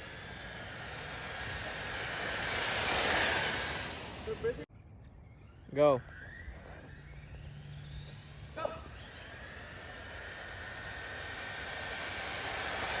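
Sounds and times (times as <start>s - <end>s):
electric motors whining: 0.0s - 4.7s, 5.3s - 13.0s.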